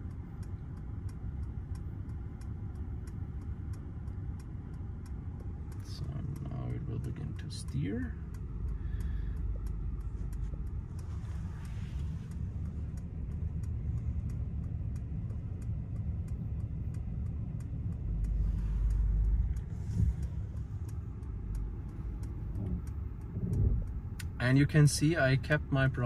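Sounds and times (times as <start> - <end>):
car low rumble: 0.0 - 26.0
faint steady ticking: 0.0 - 26.0.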